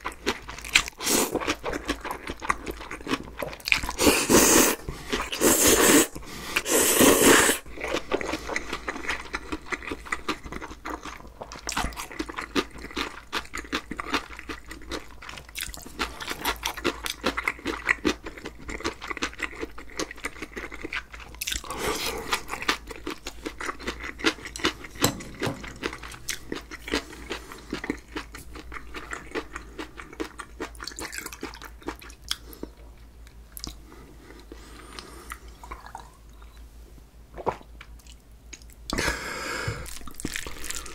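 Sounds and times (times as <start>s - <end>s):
wet chewing with crunches: 0.0s - 32.8s, 39.8s - 40.9s.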